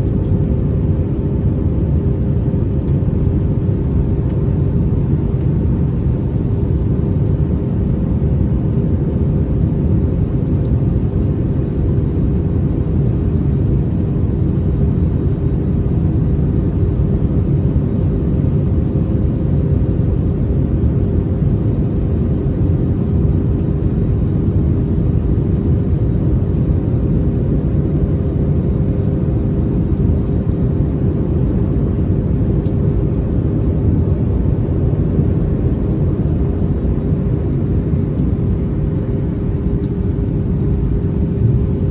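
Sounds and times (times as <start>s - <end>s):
aircraft cabin engine rumble: 0.0s - 41.9s
faint constant hums: 0.0s - 41.9s.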